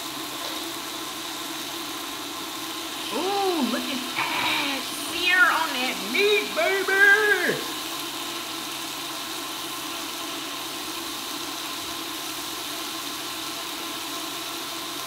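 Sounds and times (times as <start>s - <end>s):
hot pot broth boiling with hum: 0.0s - 15.0s.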